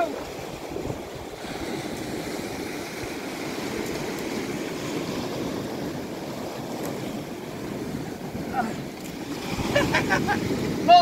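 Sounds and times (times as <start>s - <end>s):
surf breaking over rocks: 0.0s - 11.0s.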